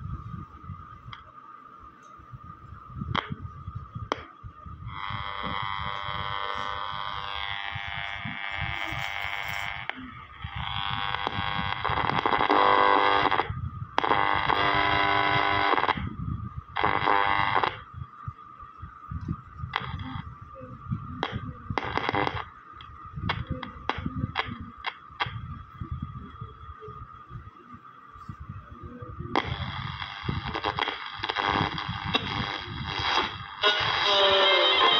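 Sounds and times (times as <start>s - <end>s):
high radio whistle: 0.0s - 34.9s
radio static: 2.1s - 34.9s
radio station sound: 3.1s - 16.1s, 16.7s - 34.9s.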